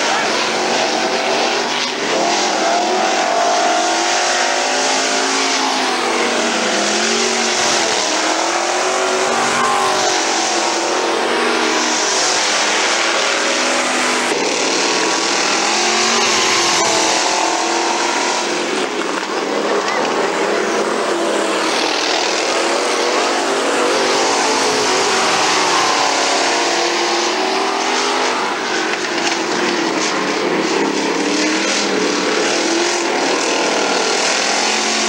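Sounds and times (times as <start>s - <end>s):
race car engines at speed: 0.0s - 35.0s.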